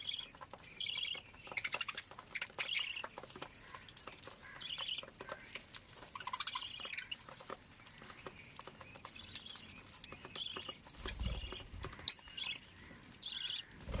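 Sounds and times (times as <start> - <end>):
light clicks and scratching: 0.0 - 12.8
small birds chirping: 0.0 - 14.0.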